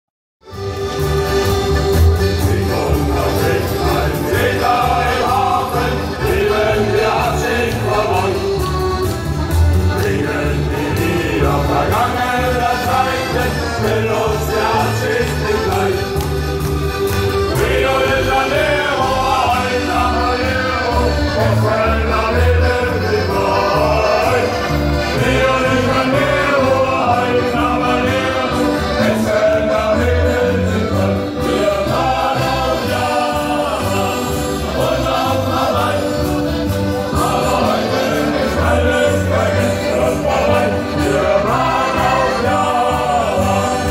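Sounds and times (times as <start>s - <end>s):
accordions: 0.4s - 43.9s
guitar: 0.4s - 43.9s
bass line: 0.5s - 43.9s
choir singing: 2.0s - 43.9s.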